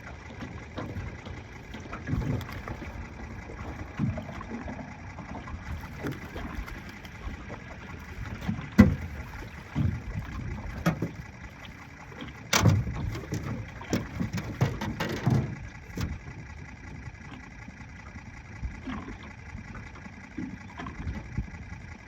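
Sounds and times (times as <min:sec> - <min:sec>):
choppy water: 0:00.0 - 0:22.0
waves slapping boat hull: 0:00.0 - 0:22.0
wind: 0:00.0 - 0:22.0.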